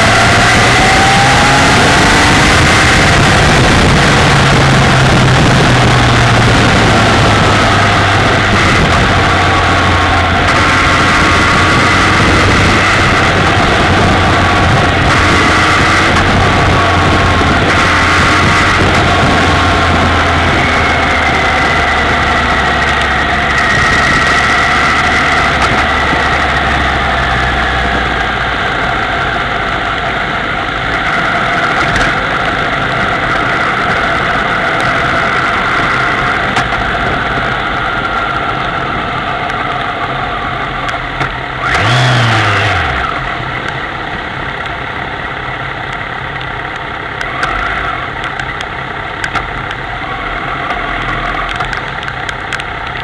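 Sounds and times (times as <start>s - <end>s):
motorcycle engine at low revs: 0.0s - 53.0s
wind and road noise: 0.0s - 53.0s.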